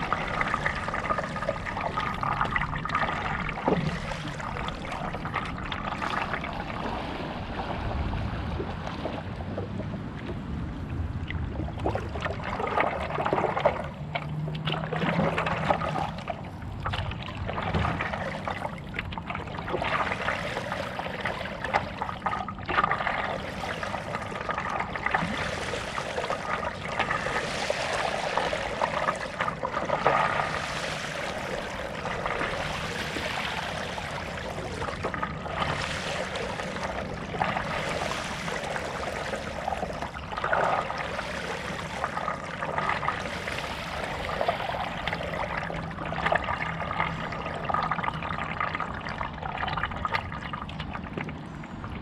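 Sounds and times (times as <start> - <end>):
paddle strokes through water: 0.0 - 52.0
water trickling off paddle: 0.0 - 52.0.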